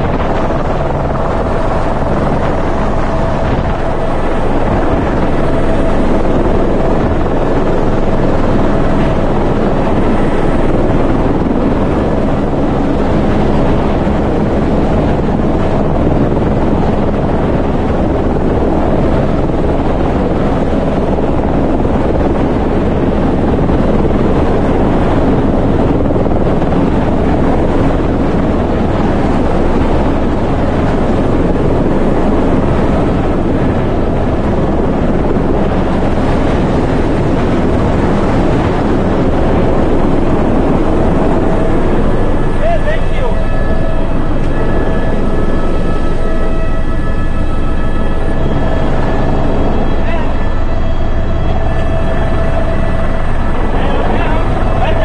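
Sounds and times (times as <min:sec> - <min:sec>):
helicopter engine and rotor: 0:00.0 - 0:55.0
wind buffeting microphone: 0:00.0 - 0:55.0.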